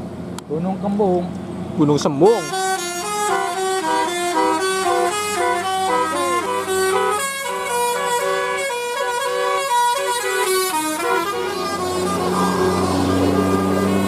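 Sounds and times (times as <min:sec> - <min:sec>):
low engine hum: 0:00.0 - 0:14.0
multi-tone air horn melody: 0:02.2 - 0:14.0.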